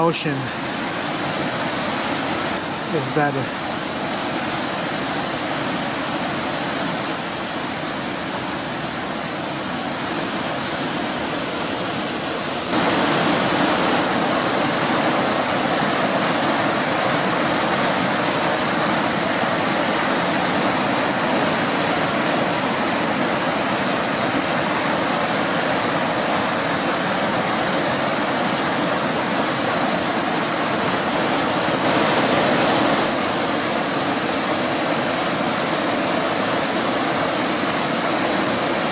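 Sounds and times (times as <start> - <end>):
brook rushing in flood: 0.0 - 38.9.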